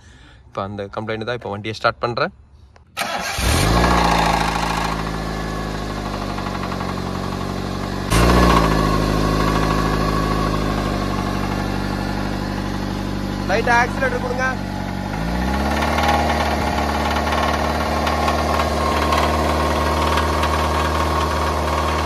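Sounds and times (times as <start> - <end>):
car engine cranking and starting: 2.8 - 22.0
engine idling with misfire: 3.0 - 22.0.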